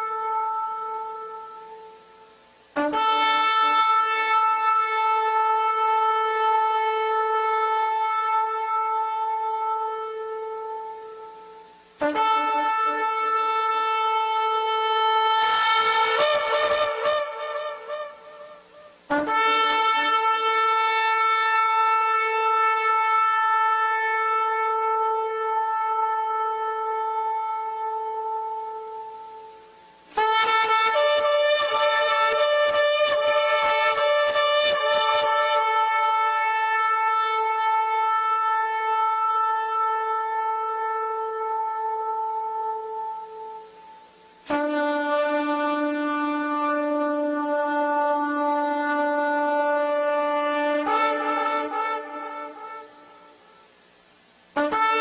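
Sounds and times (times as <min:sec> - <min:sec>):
ram's horn long blast: 0:00.0 - 0:53.9, 0:54.5 - 0:55.0.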